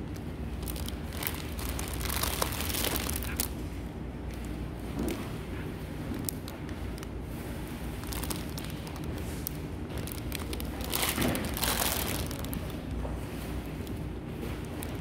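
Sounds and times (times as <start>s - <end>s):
cellophane crinkling: 0.0s - 3.6s, 6.2s - 15.0s.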